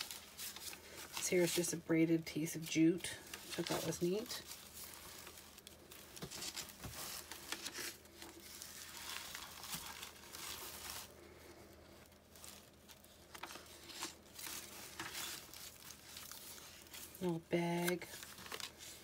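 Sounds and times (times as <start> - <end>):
paper pages rustling: 0.0 - 1.8, 2.7 - 19.0.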